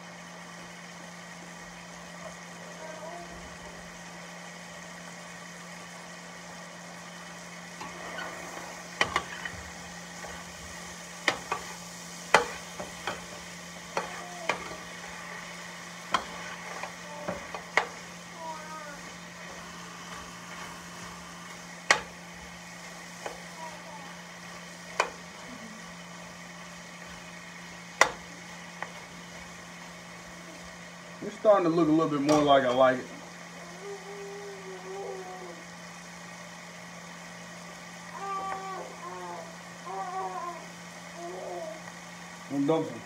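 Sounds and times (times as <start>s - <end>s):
vegetables sizzling in a pan: 0.0s - 43.0s.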